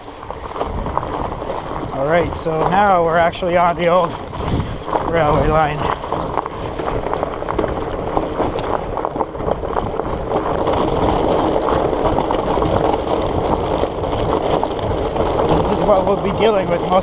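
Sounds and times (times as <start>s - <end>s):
bike tyres crunching over stones: 0.0s - 17.0s.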